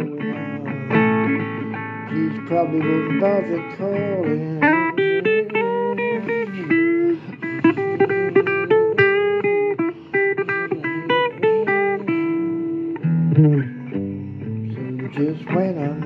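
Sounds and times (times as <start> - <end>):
blues guitar lead notes: 0.0 - 16.0
sustained guitar chords: 0.0 - 16.0.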